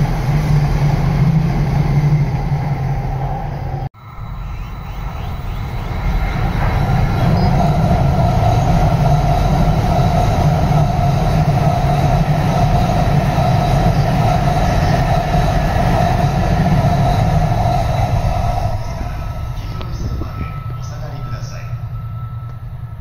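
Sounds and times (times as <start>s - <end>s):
steady whine: 0.0s - 23.0s
train wheels rushing on rail: 0.0s - 23.0s.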